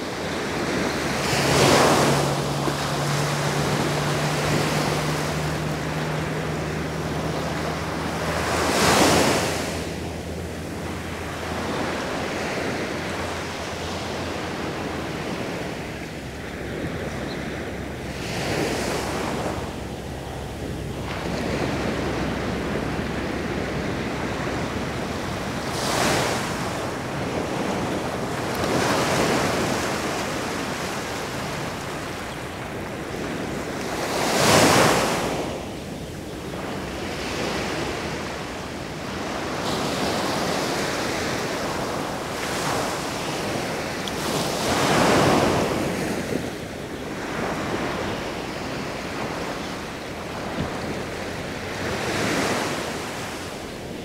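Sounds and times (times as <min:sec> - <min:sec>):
sea waves breaking on beach: 0:00.0 - 0:54.0.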